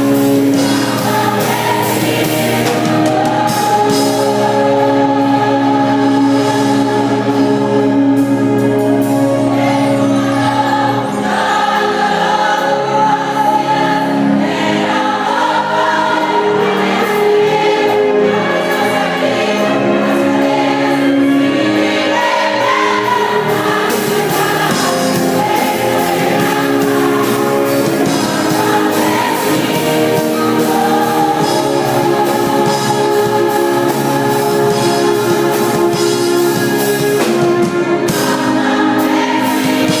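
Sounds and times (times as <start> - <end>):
choir singing gospel: 0.0 - 40.0.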